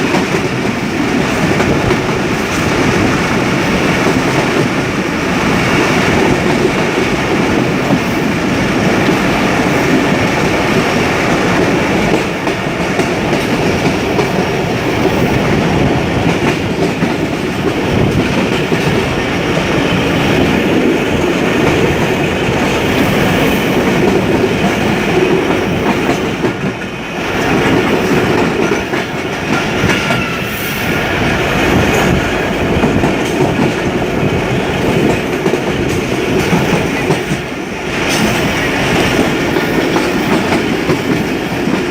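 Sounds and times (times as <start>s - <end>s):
train wheels clattering on rails: 0.0s - 41.9s.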